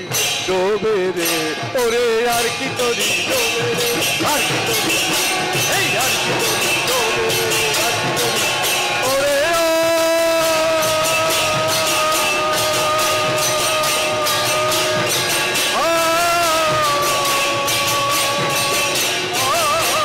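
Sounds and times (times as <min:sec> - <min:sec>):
drums: 0:00.0 - 0:20.0
hand cymbals: 0:00.0 - 0:20.0.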